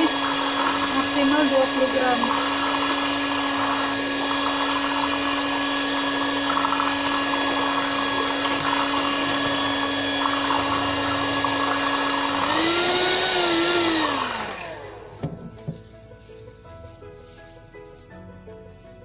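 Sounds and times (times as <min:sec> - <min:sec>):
electric hand mixer running: 0:00.0 - 0:15.8.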